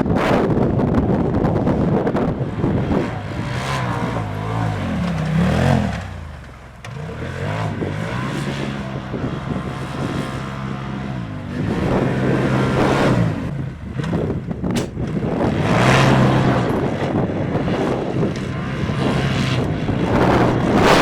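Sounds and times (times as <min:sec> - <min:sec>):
side-by-side engine revving: 0:00.0 - 0:21.0.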